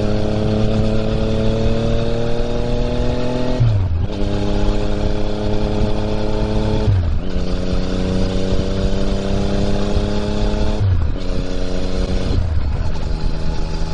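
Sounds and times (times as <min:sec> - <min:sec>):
motorcycle engine accelerating: 0:00.0 - 0:13.9
wind rush: 0:00.0 - 0:13.9.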